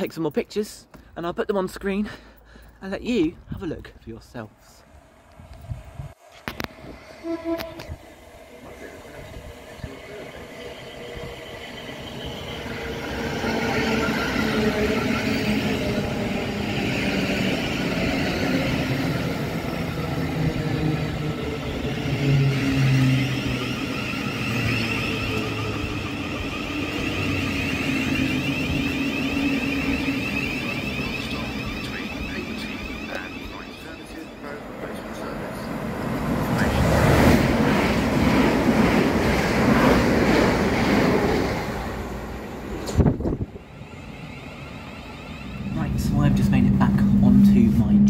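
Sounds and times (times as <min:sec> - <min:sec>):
train wheels rumbling on rails: 0:05.5 - 0:48.0.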